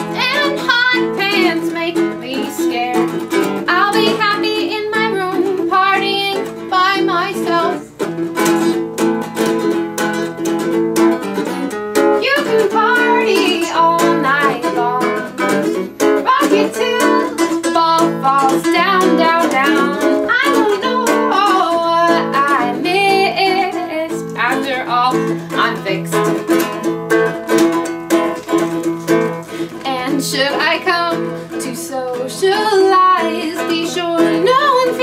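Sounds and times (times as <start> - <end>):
woman singing: 0.0 - 8.8, 12.0 - 26.8, 29.6 - 35.0
ukulele strumming: 0.0 - 35.0.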